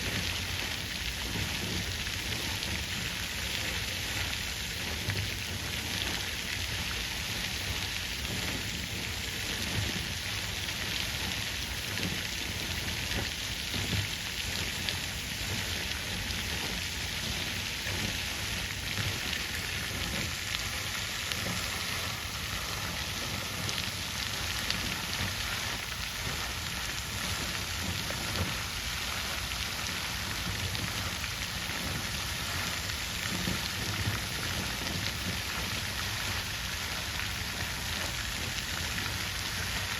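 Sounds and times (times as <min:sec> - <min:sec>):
water fountain splashing: 0:00.0 - 0:39.9.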